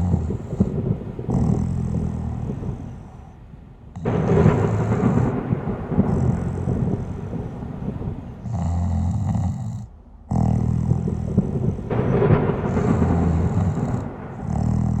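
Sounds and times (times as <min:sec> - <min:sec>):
person snoring: 0:00.0 - 0:03.4, 0:04.0 - 0:07.6, 0:08.3 - 0:15.0.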